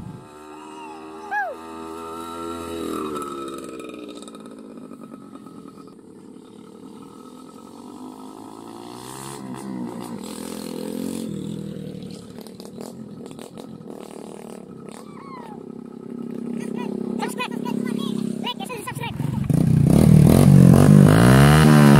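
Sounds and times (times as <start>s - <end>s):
motorcycles riding past on gravel: 0.0s - 21.9s.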